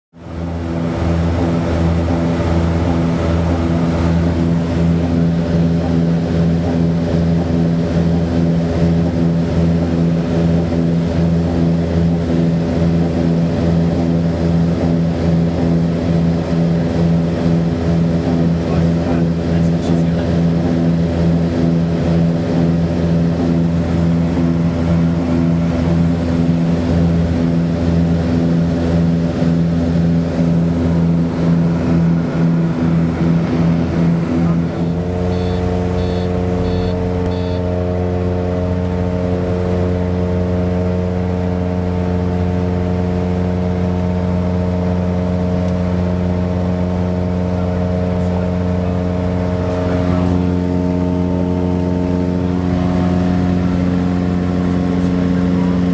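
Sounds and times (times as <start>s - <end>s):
aircraft engines droning in cabin: 0.2s - 55.9s.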